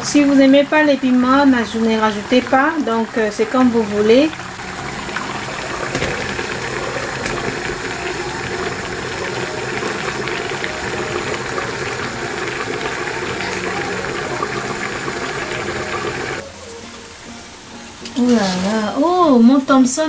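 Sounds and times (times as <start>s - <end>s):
soup boiling under a lid: 0.0s - 16.5s.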